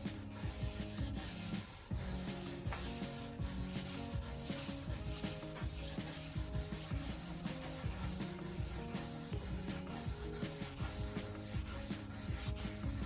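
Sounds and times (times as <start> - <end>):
abrasive block scrubbing cast iron: 0.0 - 13.0.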